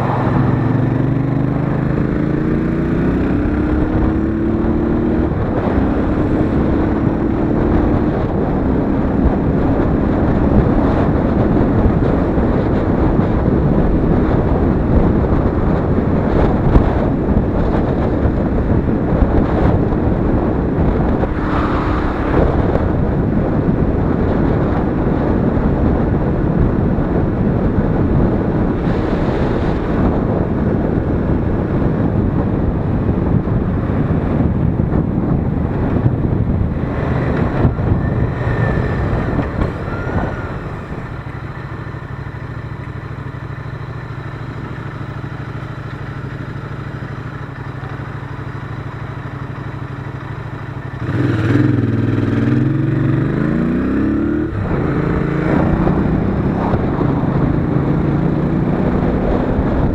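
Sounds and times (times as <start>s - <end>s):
motorcycle engine running: 0.0s - 59.9s
wind rush over microphone: 0.0s - 59.9s.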